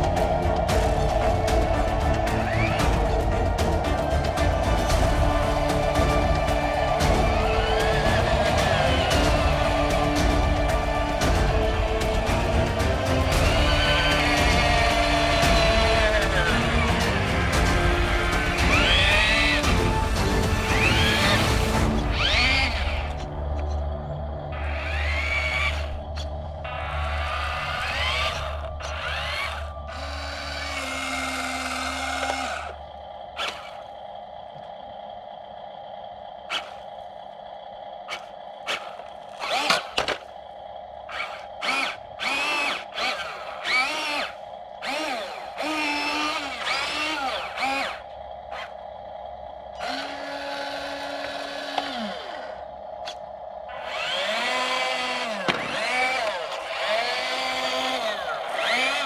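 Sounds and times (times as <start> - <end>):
small electric motors whining: 0.0 - 59.0
steady hum: 0.0 - 59.0.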